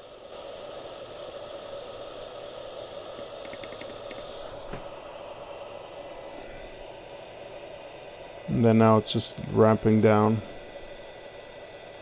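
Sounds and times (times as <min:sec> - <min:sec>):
hot air tool hissing: 0:00.0 - 0:12.0.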